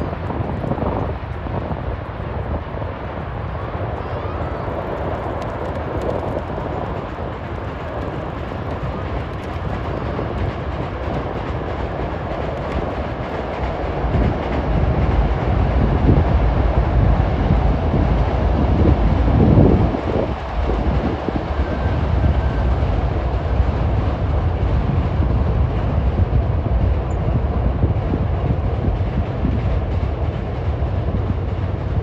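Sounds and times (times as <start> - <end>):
train rumbling over bridge: 0.0 - 32.0.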